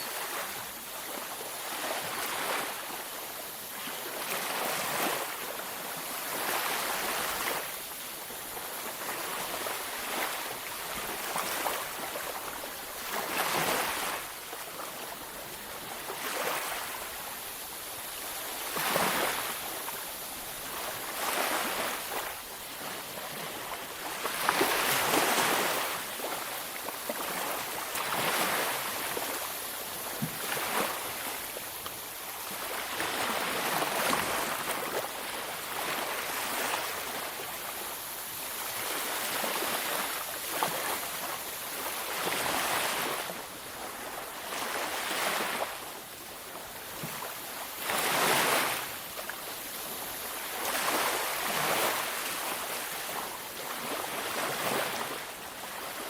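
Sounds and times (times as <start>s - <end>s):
waves washing on beach: 0.0s - 56.0s.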